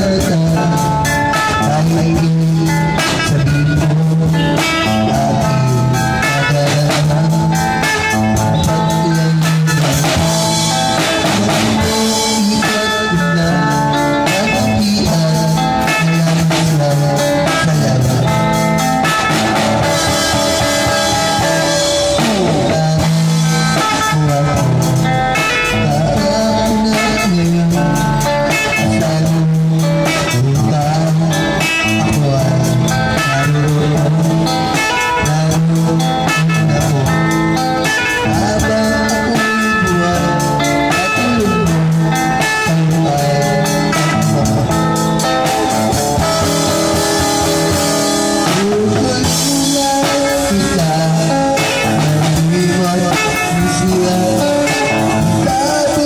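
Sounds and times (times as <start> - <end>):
bass line: 0.0 - 56.0
drums and cymbals: 0.0 - 56.0
electric guitar playing: 0.0 - 56.0.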